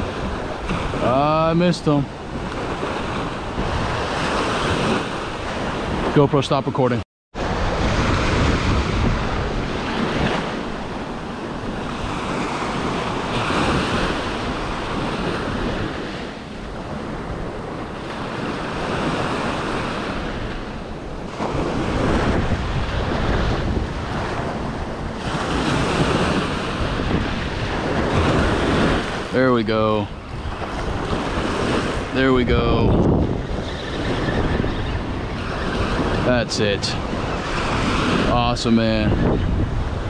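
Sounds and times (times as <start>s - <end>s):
wind buffeting microphone: 0.0s - 6.5s, 7.4s - 40.0s.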